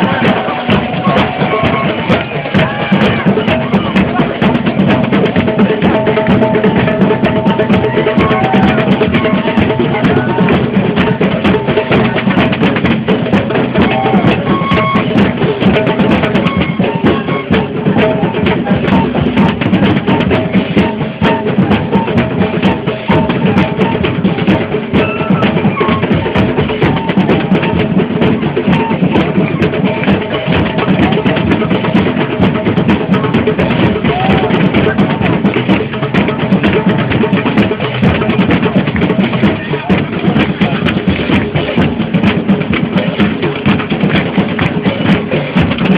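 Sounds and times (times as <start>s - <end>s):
crowd drumming: 0.0s - 45.9s.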